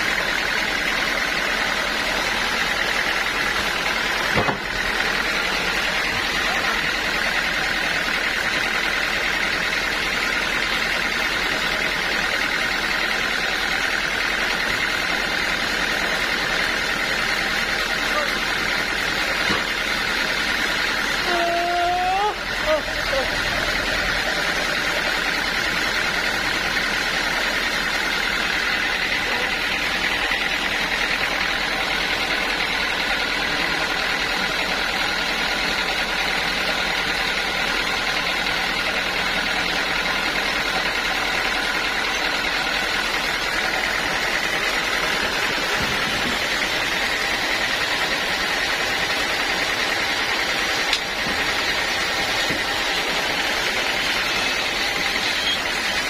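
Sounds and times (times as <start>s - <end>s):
machine noise: 0.0s - 56.0s
sawmill saw whine: 0.0s - 56.0s.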